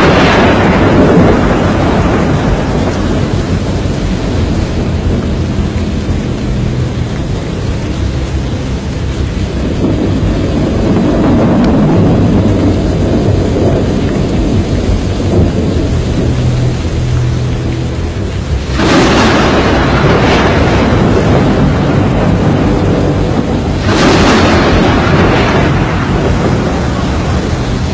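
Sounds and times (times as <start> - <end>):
rain: 0.0 - 27.9
thunder rumbling: 0.0 - 27.9.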